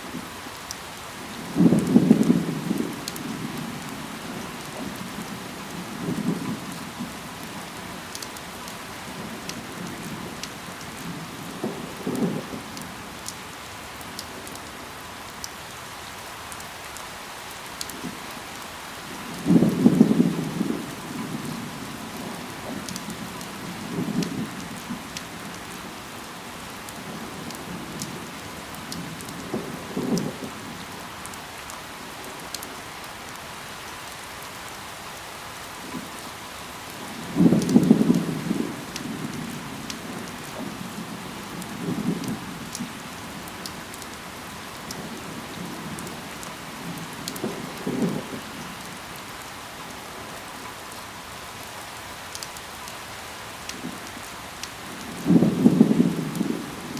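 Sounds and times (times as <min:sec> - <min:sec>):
rain falling on leaves: 0:00.0 - 0:56.9.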